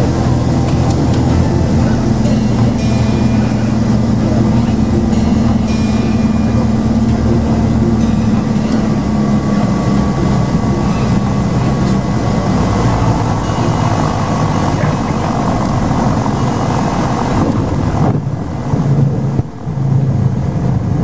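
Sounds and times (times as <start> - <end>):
propeller aircraft engine droning: 0.0 - 21.0.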